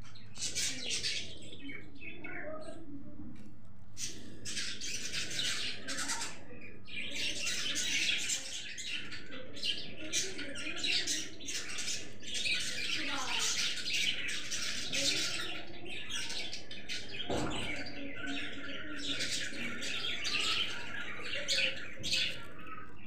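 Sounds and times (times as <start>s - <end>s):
budgerigars chattering: 4.0s - 22.9s.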